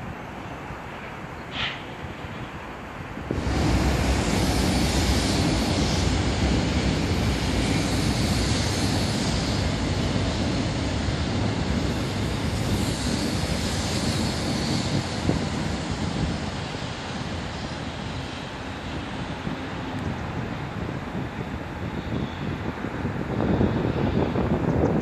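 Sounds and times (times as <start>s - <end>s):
electric train running past: 0.0s - 25.0s
wheels rumbling on rails: 0.0s - 25.0s.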